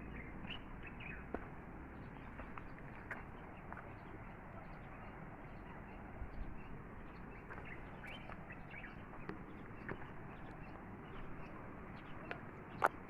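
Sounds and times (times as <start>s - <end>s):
bird chirps: 0.0s - 1.3s, 1.9s - 13.0s.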